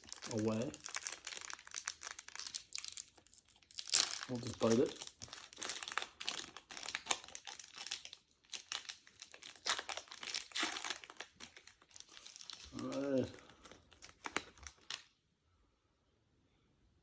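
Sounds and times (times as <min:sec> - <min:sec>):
plastic wrapper crinkling and tearing: 0:00.0 - 0:15.2.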